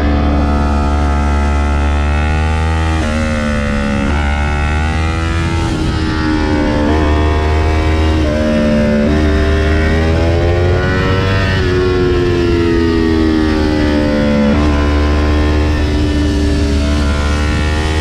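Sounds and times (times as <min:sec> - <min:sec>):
motorcycle engine revving: 0:00.0 - 0:18.0
wind rumble: 0:00.0 - 0:18.0.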